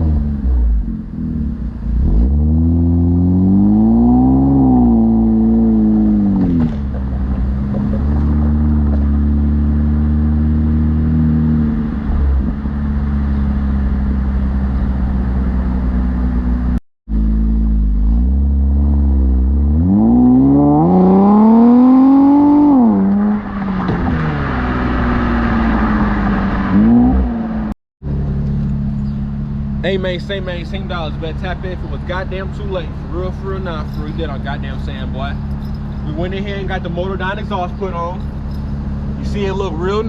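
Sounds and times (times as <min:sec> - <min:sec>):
car engine droning: 0:00.0 - 0:40.0.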